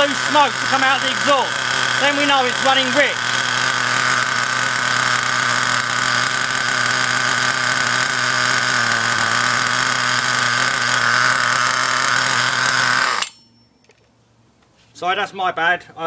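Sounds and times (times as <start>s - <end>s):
nitro engine idling fast: 0.0s - 13.2s.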